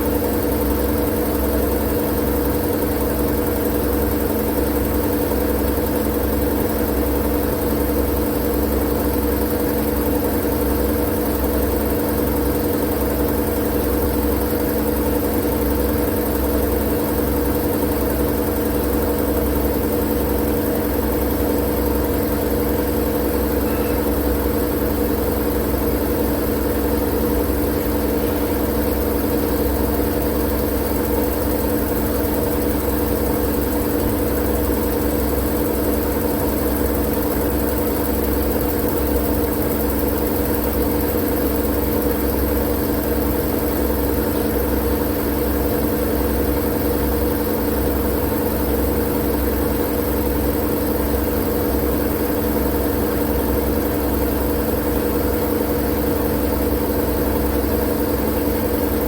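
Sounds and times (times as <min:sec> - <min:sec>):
constant low hum: 0:00.0 - 0:59.0.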